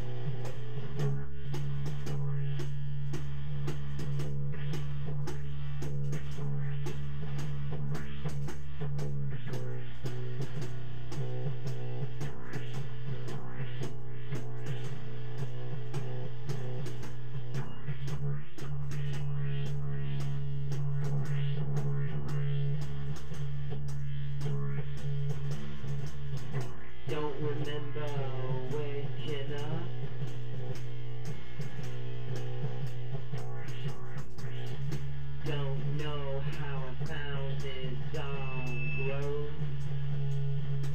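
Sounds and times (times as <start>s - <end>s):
held low bass tone: 0.0s - 40.9s.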